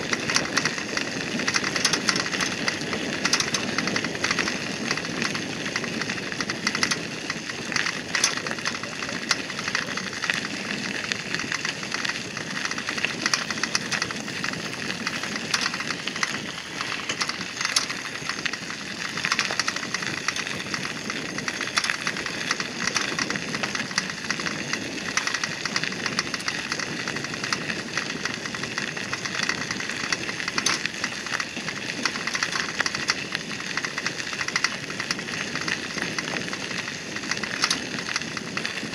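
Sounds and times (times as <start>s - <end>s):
bicycle tyres crunching on gravel: 0.0s - 38.9s.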